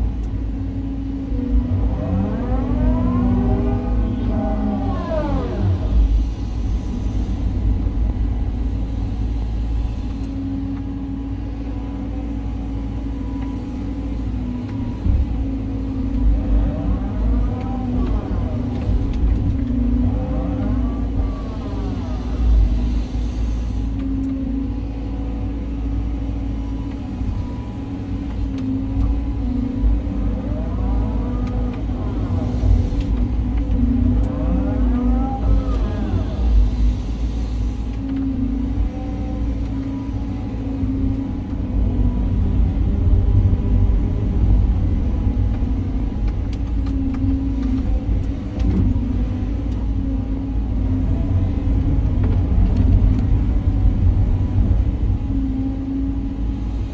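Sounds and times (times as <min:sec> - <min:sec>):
excavator diesel engine rumbling: 0:00.0 - 0:56.9.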